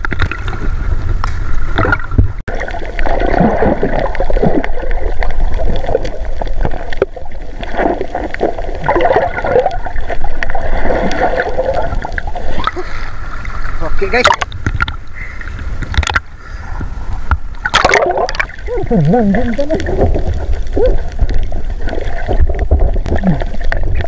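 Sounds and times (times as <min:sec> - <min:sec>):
underwater gurgling and bubbling: 0:00.0 - 0:24.0.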